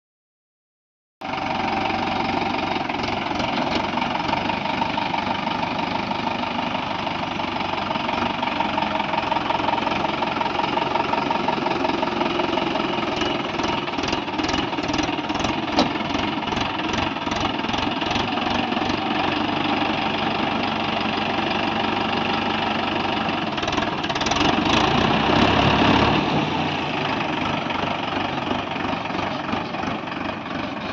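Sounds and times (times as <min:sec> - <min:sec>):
tractor diesel engine running: 0:01.2 - 0:30.9.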